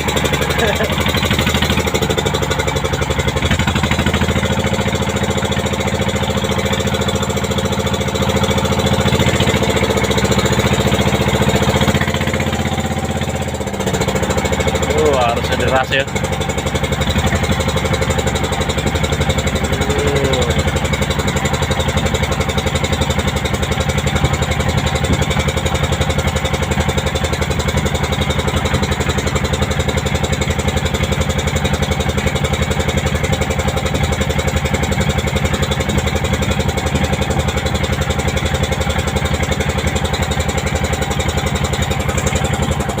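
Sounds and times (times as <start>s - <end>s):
motorboat engine running: 0.0s - 43.0s.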